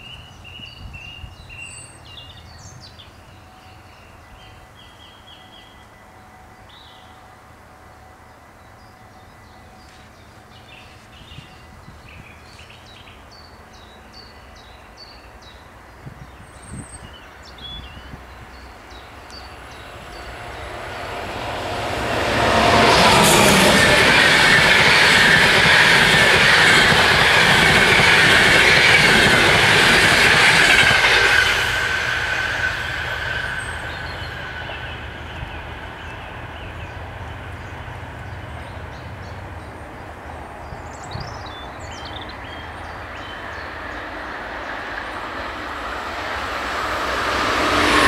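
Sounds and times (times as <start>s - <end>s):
train rumble and rail noise: 0.0s - 48.0s.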